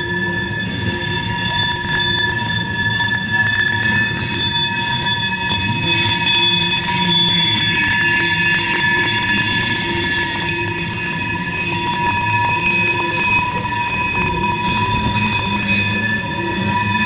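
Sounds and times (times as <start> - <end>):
low rumble of train: 0.0 - 17.0
train wheels squealing: 0.0 - 17.0.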